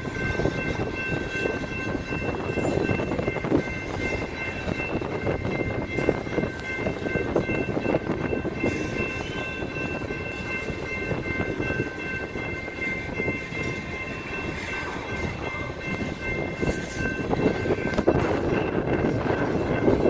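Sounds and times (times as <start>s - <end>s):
crossing warning bell ringing: 0.0s - 20.0s
train wheels rumbling on rails: 0.0s - 20.0s.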